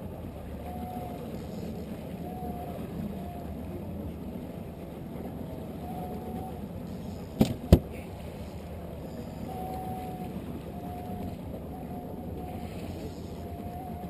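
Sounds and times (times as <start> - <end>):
water and wind noise: 0.0 - 14.0
outboard motor running: 0.6 - 14.0.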